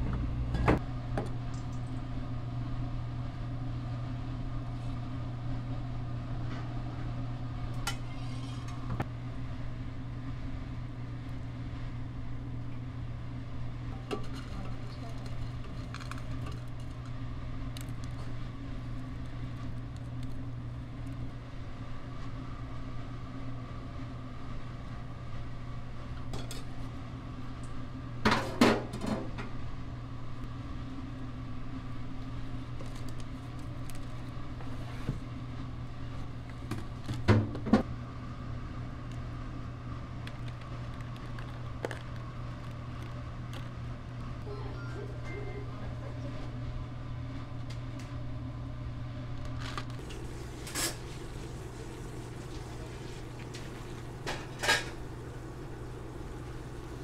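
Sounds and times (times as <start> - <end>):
kitchen equipment hum: 0.0 - 44.4, 46.5 - 57.0.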